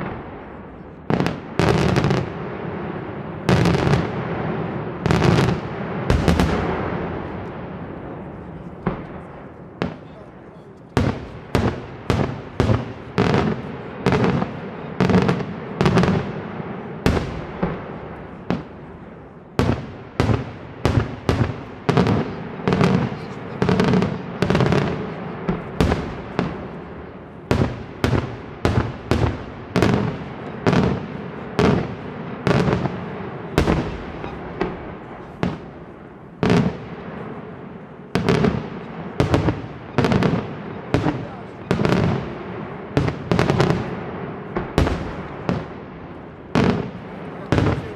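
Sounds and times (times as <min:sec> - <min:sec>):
rumble of fireworks bursts: 0:00.0 - 0:47.9.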